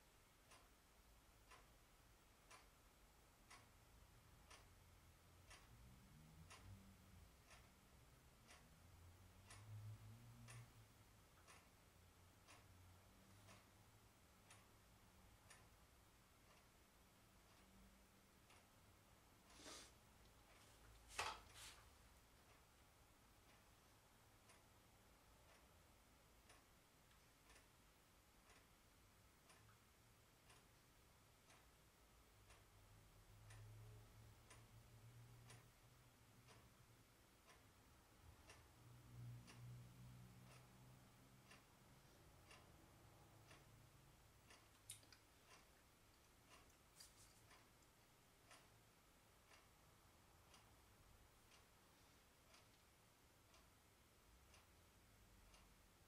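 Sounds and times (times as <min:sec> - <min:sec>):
faint regular ticking: 0:00.0 - 0:56.0
low room hum: 0:00.0 - 0:56.0.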